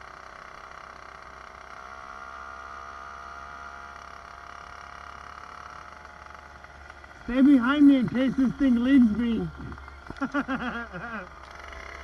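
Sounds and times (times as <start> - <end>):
small motorized bicycle engine: 0.0 - 12.0.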